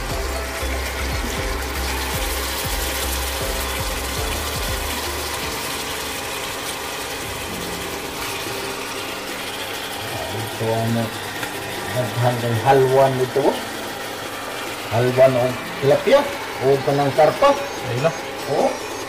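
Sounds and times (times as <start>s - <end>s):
chicken sizzling in oil: 0.0s - 19.0s
induction cooker hum: 0.0s - 19.0s.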